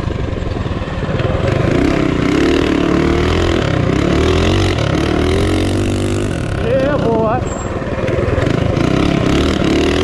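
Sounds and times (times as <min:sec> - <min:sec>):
minibike engine revving high: 0:01.2 - 0:10.0.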